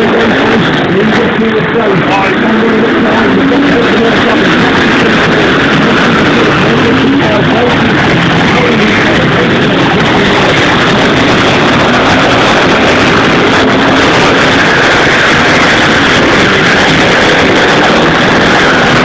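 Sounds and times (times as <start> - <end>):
racing motorcycle engines: 0.0 - 19.0.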